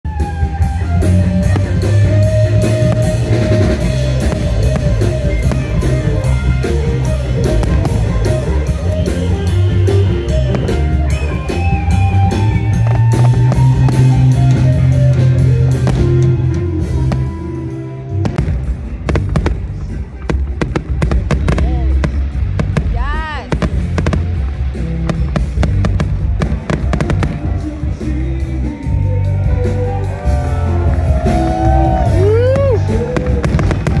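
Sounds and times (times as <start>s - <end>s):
background music with steady beat: 0.1s - 34.0s.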